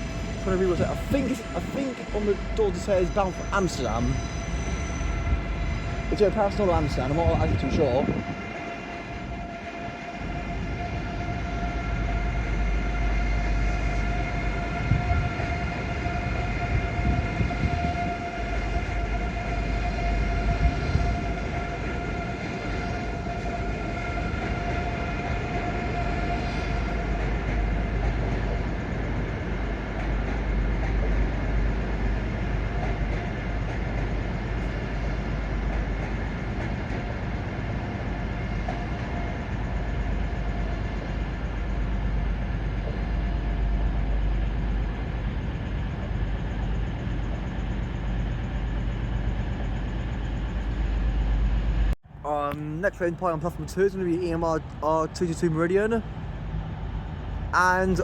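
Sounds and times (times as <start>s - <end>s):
train low rumble: 0.0s - 58.0s.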